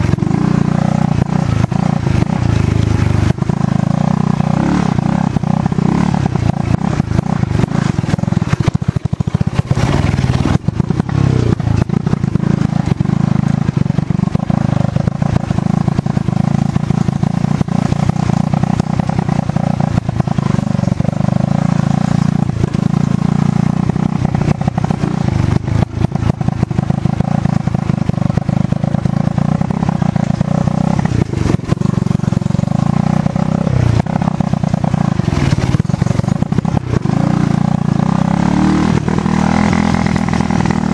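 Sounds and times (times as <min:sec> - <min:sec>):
small vehicle engine running: 0:00.0 - 0:40.9.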